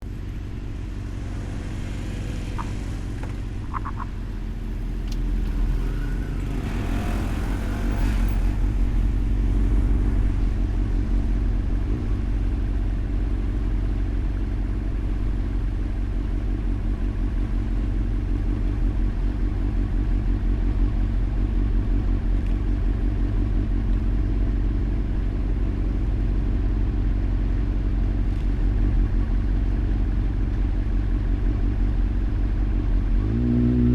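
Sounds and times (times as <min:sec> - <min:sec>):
motorcycle engine rumbling: 0:00.0 - 0:33.9.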